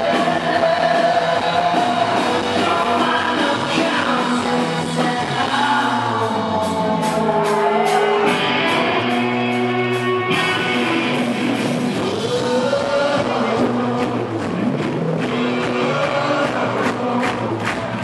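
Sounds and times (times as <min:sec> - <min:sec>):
live rock band: 0:00.0 - 0:18.0
person singing: 0:00.0 - 0:18.0.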